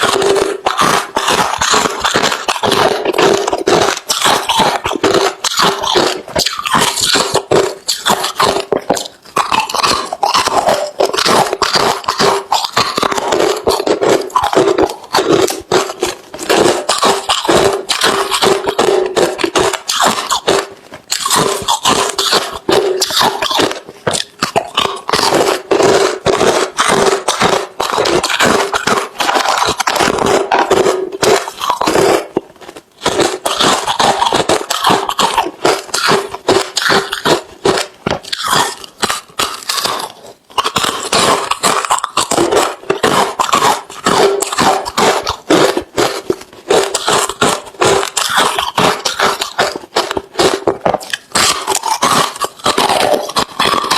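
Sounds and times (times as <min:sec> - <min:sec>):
chewing crushed ice: 0:00.0 - 0:53.9.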